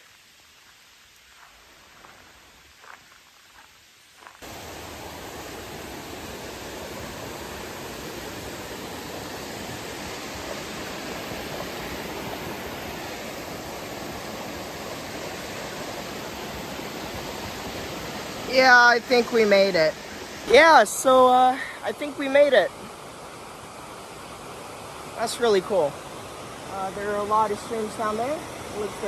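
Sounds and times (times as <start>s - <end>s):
fast-flowing water rushing: 4.4s - 29.0s.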